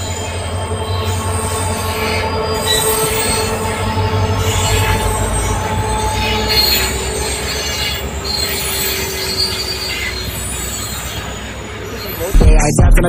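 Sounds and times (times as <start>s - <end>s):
train wheels rumbling on rails: 0.0s - 12.6s.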